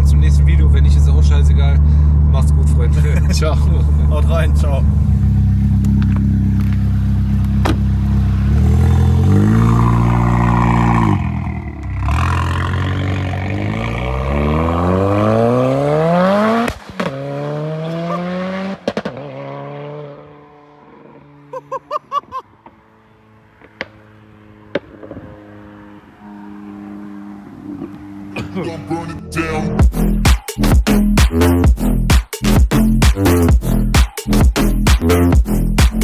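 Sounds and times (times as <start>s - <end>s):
car engine revving and accelerating: 0.0s - 21.6s, 22.4s - 30.2s.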